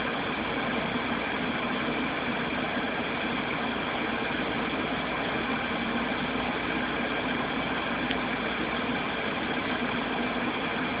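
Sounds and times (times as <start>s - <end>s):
steady machine hum and hiss: 0.0s - 11.0s.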